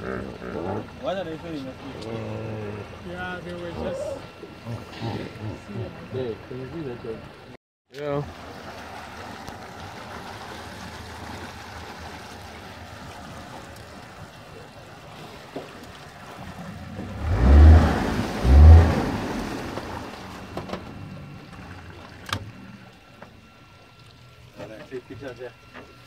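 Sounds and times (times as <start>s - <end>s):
low rumble of water and boat: 0.0s - 26.0s.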